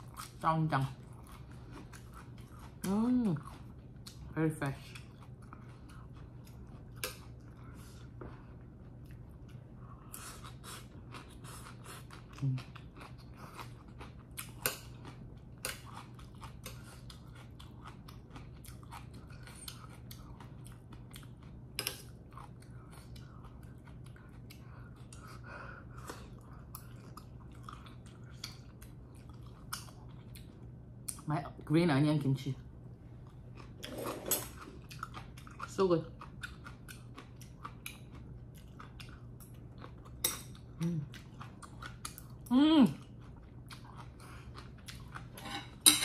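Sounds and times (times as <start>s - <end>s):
chewing and mouth sounds: 0.0s - 31.3s, 33.1s - 45.8s
steady low hum: 0.0s - 46.0s.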